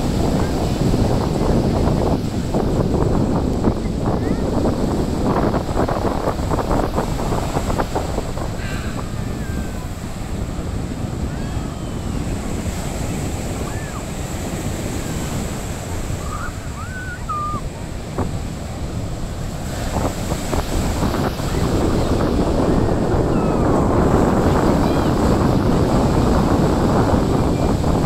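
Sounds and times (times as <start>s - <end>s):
surf breaking on shore: 0.0s - 28.0s
wind buffeting microphone: 0.0s - 28.0s.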